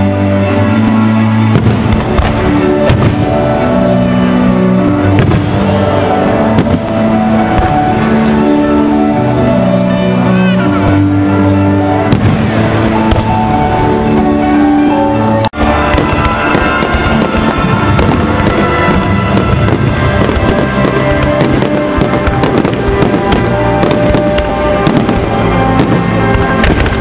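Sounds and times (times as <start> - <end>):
fireworks bursting: 0.0 - 27.0
music: 0.0 - 27.0.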